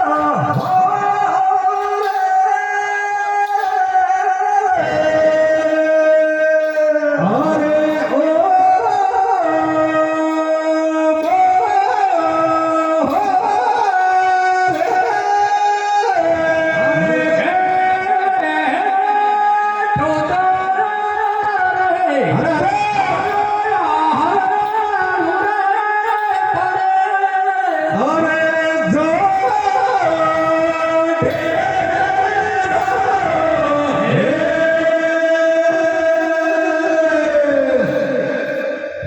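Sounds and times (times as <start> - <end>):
man singing devotional song: 0.0 - 39.0.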